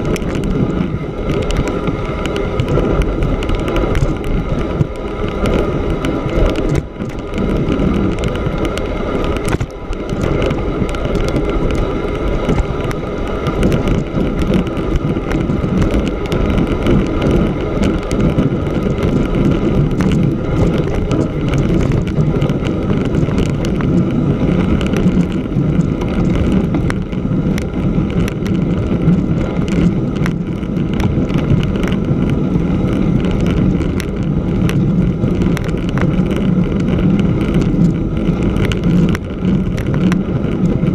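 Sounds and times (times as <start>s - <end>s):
bicycle tyre rumbling over snow: 0.0s - 40.9s
wind on microphone: 0.0s - 40.9s.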